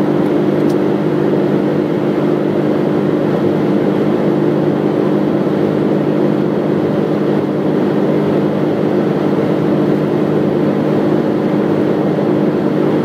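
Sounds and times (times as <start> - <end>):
car engine hum: 0.0 - 13.0.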